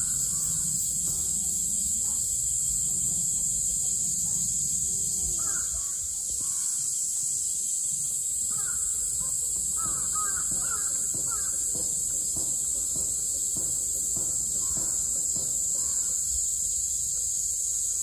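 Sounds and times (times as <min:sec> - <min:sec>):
distant bird calls: 0:00.0 - 0:17.0
steady high-pitched hiss: 0:00.0 - 0:18.0.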